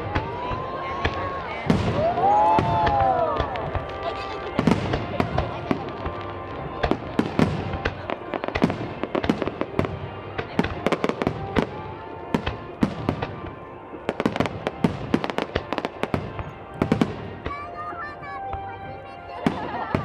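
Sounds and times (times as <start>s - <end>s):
background music: 0.0s - 20.0s
fireworks bursting: 0.0s - 20.0s.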